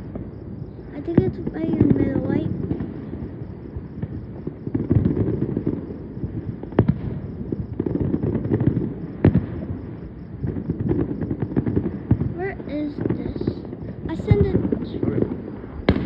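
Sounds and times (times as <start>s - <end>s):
fireworks crackling: 0.0s - 16.0s
sharp firework bangs: 0.0s - 16.0s.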